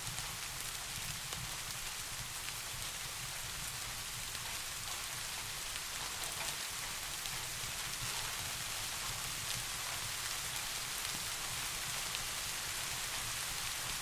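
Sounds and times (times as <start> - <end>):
raindrops ticking on a surface: 0.0 - 14.0
steady rain hiss: 0.0 - 14.0.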